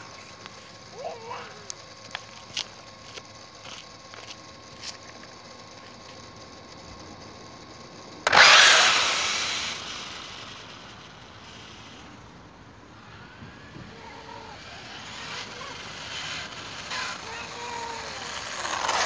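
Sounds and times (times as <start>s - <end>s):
electric toy car motor whine: 0.0s - 19.0s.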